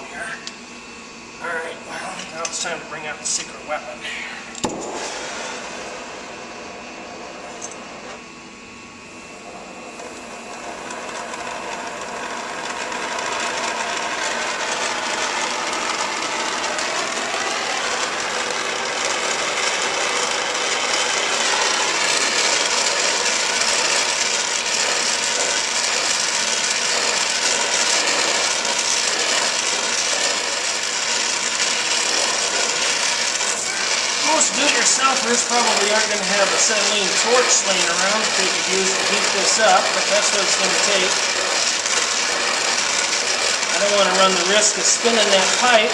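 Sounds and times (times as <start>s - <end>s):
torch flame hissing: 0.0s - 45.9s.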